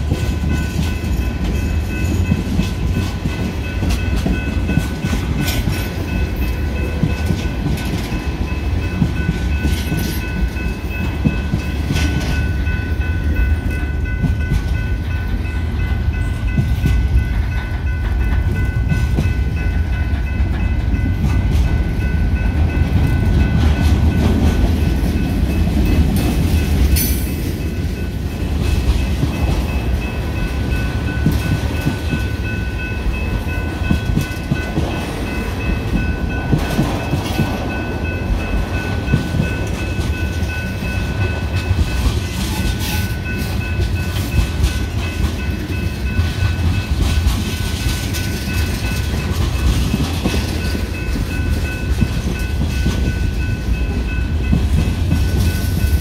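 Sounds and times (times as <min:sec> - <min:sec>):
train rumble: 0:00.0 - 0:56.0
wheels clacking on rail: 0:00.0 - 0:56.0.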